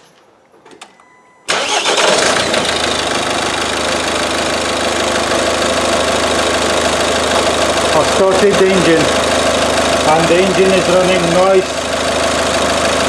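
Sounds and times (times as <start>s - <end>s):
diesel engine starting and idling: 1.4s - 13.0s.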